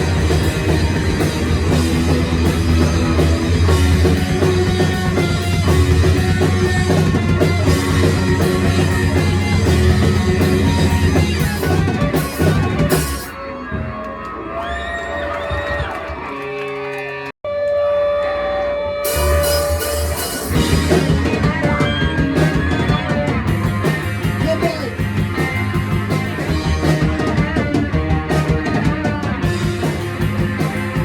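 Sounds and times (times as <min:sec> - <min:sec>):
live rock band playing: 0:00.0 - 0:14.6, 0:15.5 - 0:31.0.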